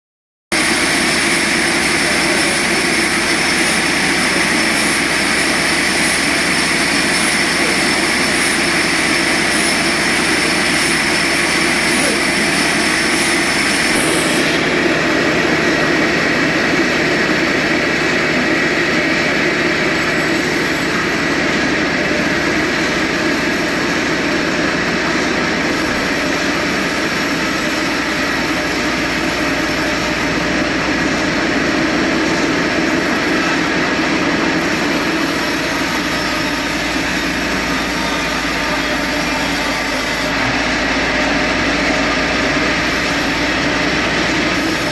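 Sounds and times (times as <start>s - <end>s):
sawmill machinery drone: 0.5s - 44.9s.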